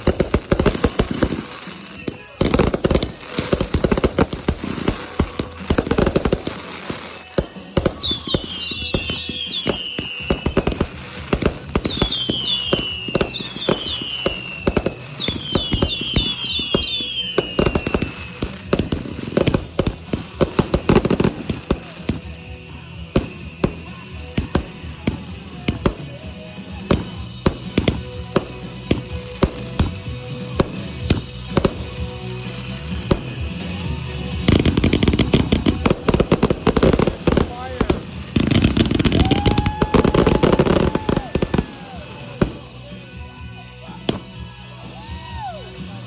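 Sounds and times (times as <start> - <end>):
falling firework whistles: 0.0 - 26.0, 30.6 - 42.8
fireworks bangs and crackles: 0.0 - 46.0.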